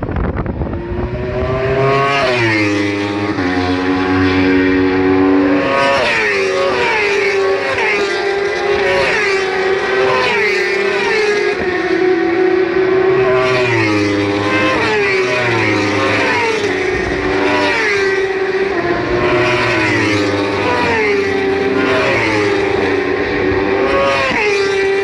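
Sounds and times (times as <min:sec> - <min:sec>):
motorbikes passing at full throttle: 0:00.0 - 0:25.0.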